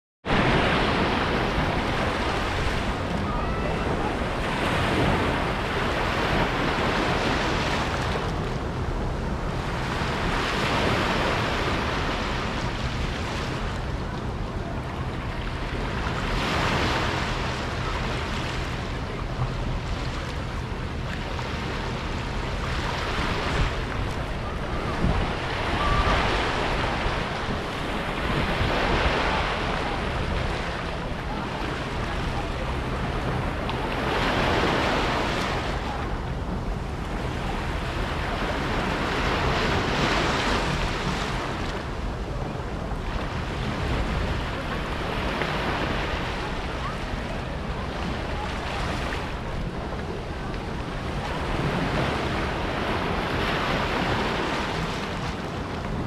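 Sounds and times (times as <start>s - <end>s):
sea waves breaking on beach: 0.2s - 56.0s.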